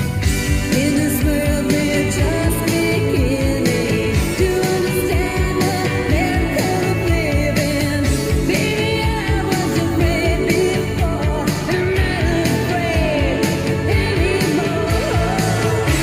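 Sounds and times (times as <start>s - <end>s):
pop-rock song with male singer: 0.0s - 16.0s
steady drum beat: 0.0s - 16.0s.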